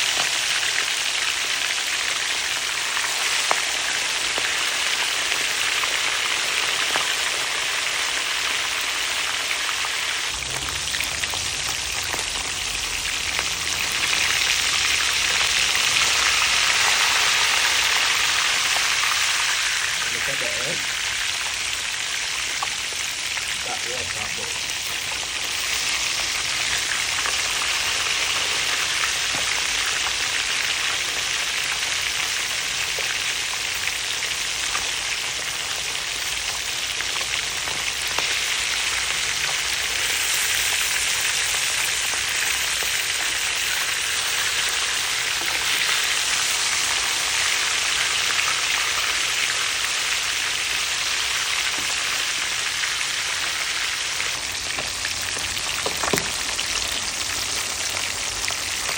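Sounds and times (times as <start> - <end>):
fish sizzling in hot oil: 0.0 - 58.9.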